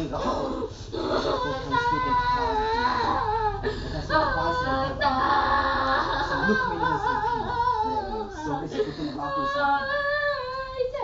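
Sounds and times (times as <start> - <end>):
high voice singing: 1.0 - 11.0.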